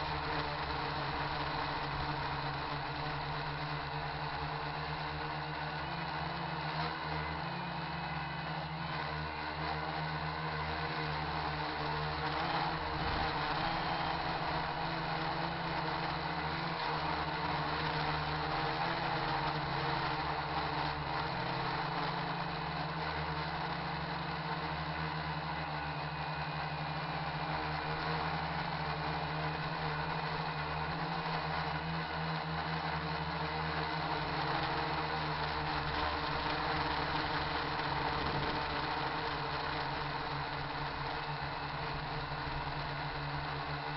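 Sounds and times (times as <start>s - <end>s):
drone propellers whirring: 0.0s - 43.9s.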